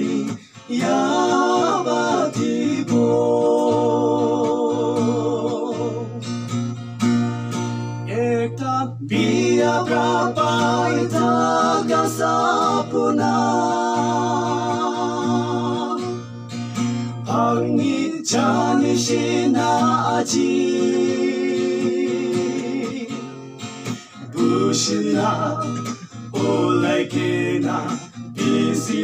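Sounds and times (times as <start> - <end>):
person singing with vibrato: 0.0 - 6.4, 8.1 - 16.3, 17.2 - 29.0.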